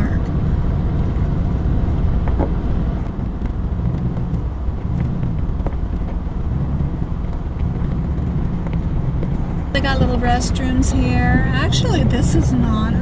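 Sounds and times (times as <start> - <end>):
engine and tyres rumbling: 0.0 - 13.0.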